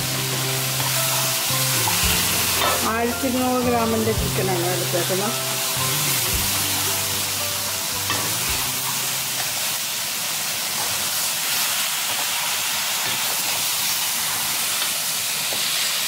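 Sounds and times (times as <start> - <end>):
chicken sizzling in a pan: 0.0 - 16.0.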